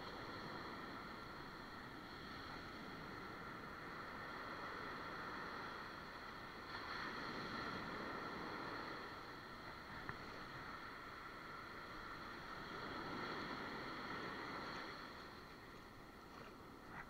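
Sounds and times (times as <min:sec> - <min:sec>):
ocean surf: 0:00.0 - 0:17.0
wind noise on microphone: 0:00.0 - 0:17.0.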